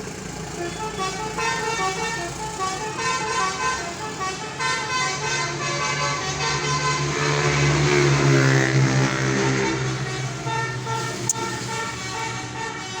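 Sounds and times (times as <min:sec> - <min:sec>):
bus engine running: 0:00.0 - 0:13.0
multi-tone bus horn: 0:00.0 - 0:13.0.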